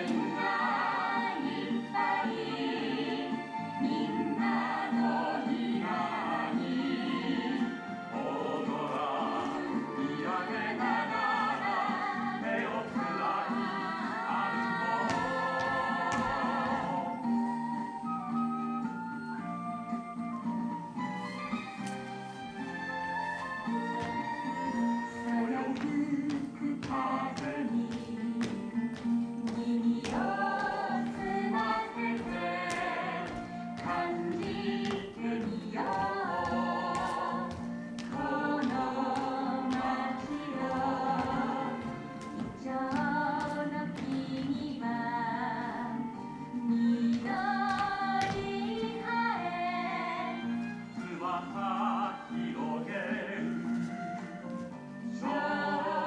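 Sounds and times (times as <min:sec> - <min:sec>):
choir singing with accompaniment: 0:00.0 - 0:56.0.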